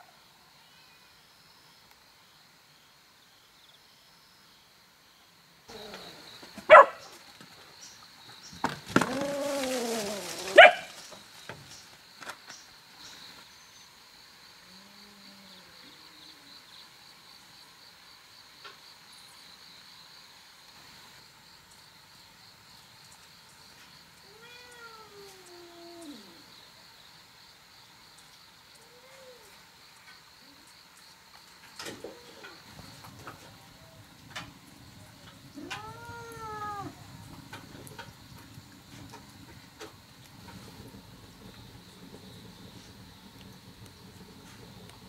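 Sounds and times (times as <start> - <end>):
night insects trilling: 0.0 - 45.0.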